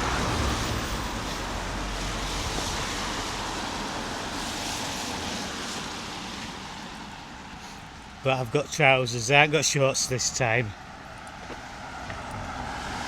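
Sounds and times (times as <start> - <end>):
car passing on wet road: 0.0 - 13.0.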